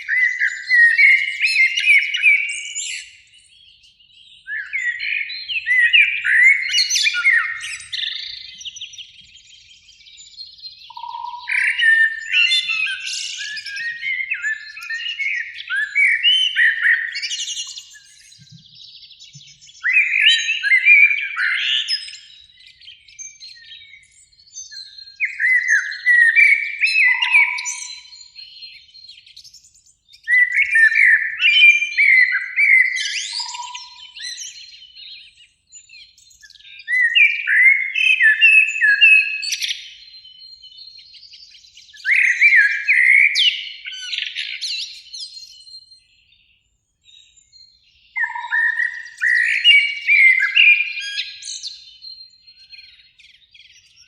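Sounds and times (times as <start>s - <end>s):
blackbird singing: 0.0s - 54.0s.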